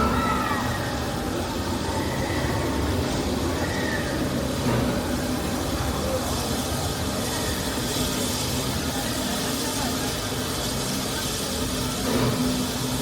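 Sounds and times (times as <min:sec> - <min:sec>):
faint voices: 0:00.0 - 0:13.0
steam train rumbling: 0:00.0 - 0:13.0.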